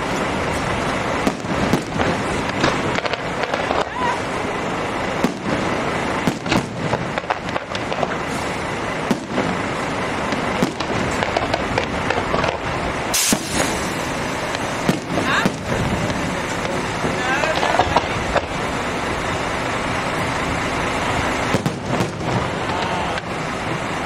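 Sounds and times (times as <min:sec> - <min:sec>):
sharp firework crack: 0:00.0 - 0:18.8, 0:20.4 - 0:23.9
fireworks bangs: 0:00.0 - 0:24.0
noisy rumble: 0:00.0 - 0:24.0.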